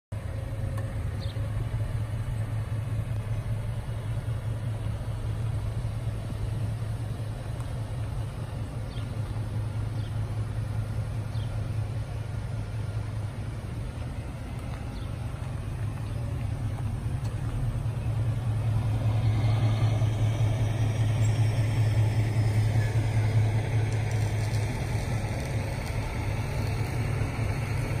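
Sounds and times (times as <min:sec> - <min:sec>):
truck engine rumbling: 0:00.1 - 0:28.0.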